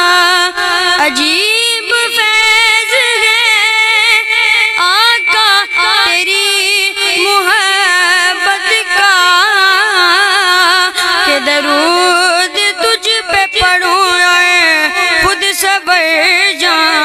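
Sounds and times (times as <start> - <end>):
child singing unaccompanied: 0.0 - 17.0.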